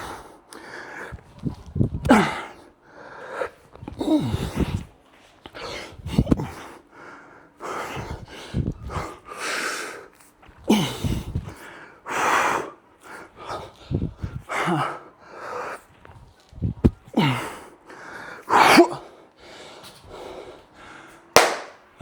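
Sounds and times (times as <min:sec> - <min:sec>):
man breathing hard: 0:00.0 - 0:04.9, 0:05.5 - 0:16.2, 0:17.0 - 0:21.4.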